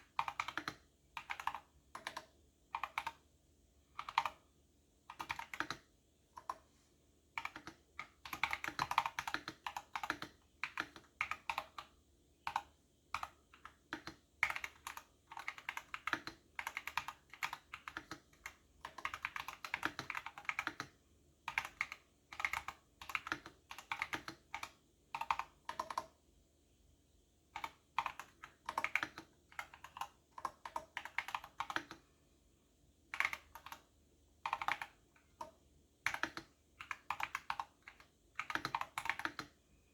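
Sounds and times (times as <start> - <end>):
typing on a keyboard: 0.0 - 3.3, 3.9 - 4.5, 5.1 - 6.7, 7.4 - 26.2, 27.6 - 32.1, 33.1 - 39.6.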